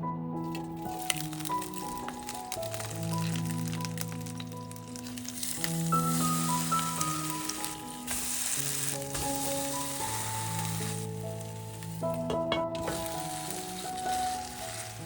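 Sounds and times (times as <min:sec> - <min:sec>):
soft background music: 0:00.0 - 0:15.0
food sizzling in oil: 0:00.4 - 0:15.0.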